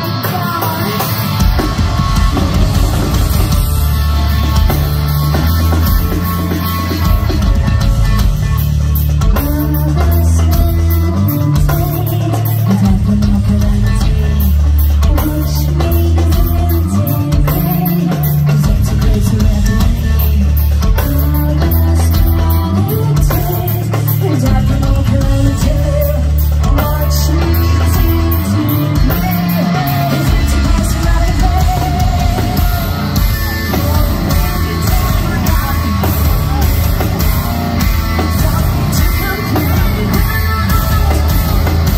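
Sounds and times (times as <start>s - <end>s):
woman singing: 0.0s - 2.7s, 9.2s - 41.9s
heavy metal band playing: 0.0s - 41.9s.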